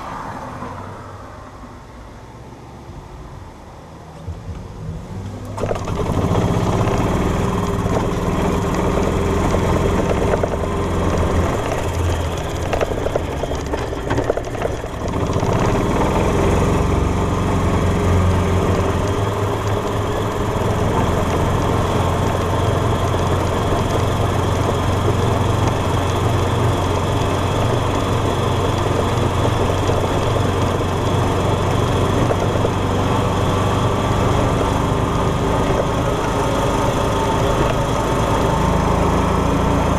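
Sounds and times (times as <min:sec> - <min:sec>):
golf cart engine running: 0:05.4 - 0:39.9.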